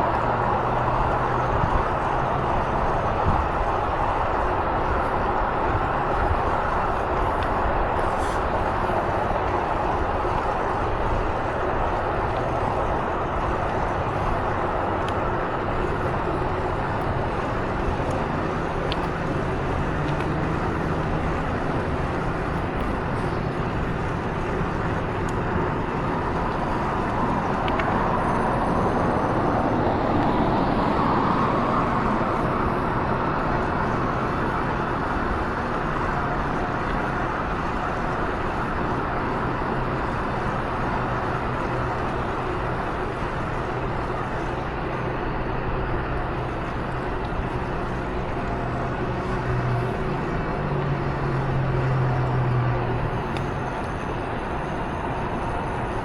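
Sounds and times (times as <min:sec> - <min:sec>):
vehicle wind and road noise: 0:00.0 - 0:56.0.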